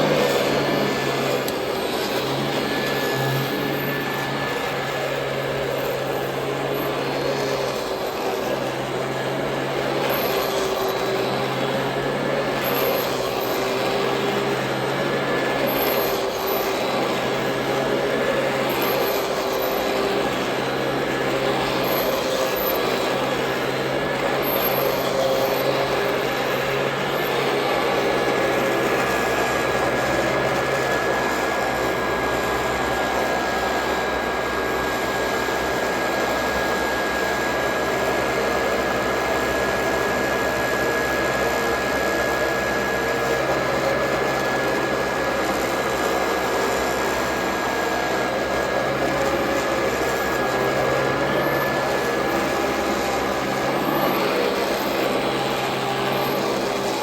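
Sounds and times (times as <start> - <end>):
upright vacuum cleaner running: 0.0 - 57.0.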